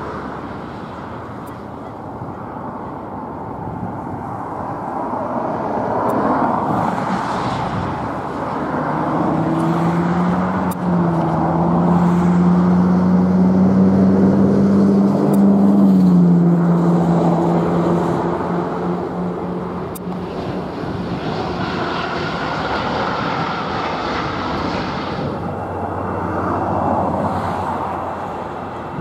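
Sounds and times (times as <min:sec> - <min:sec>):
jet airliner engine noise: 0:00.0 - 0:29.0.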